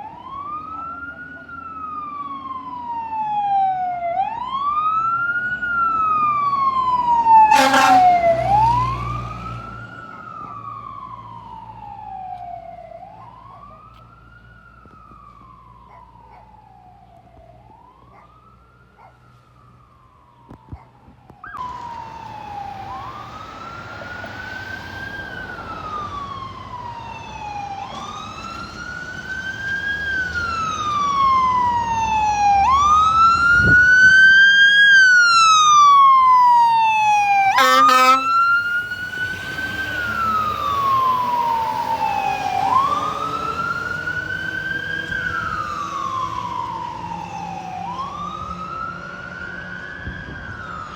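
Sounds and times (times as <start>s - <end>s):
fire engine siren wailing: 0.0s - 50.9s.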